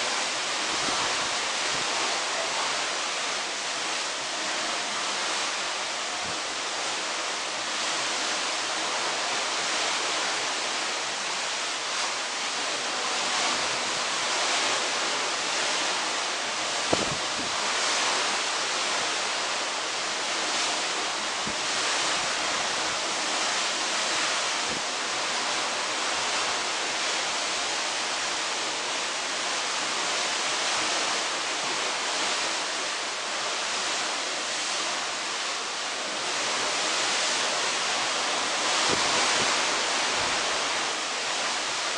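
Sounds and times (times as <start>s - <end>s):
wind and sea rushing: 0.0s - 41.9s.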